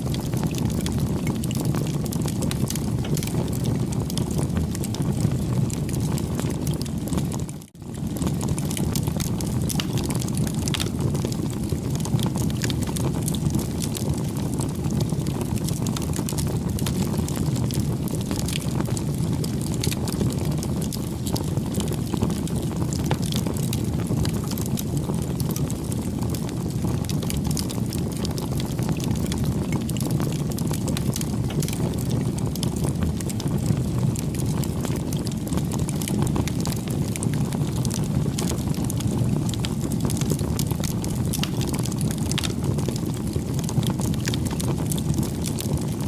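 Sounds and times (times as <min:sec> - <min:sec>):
campfire flames rushing: 0:00.0 - 0:46.0
wood crackling and popping: 0:00.0 - 0:46.0.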